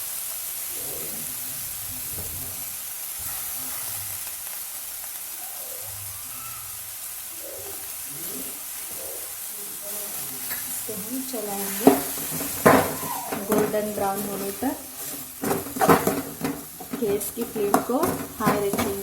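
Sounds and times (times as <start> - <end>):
onion sizzling in hot oil: 0.0 - 19.0.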